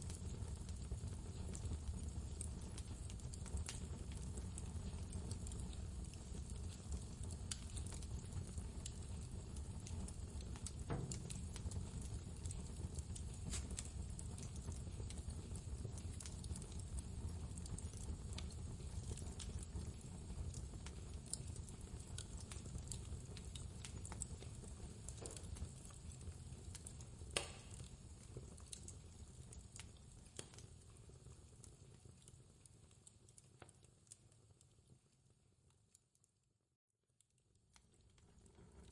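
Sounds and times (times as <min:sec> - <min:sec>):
fireplace crackling and popping: 0:00.0 - 0:36.4, 0:37.2 - 0:38.9.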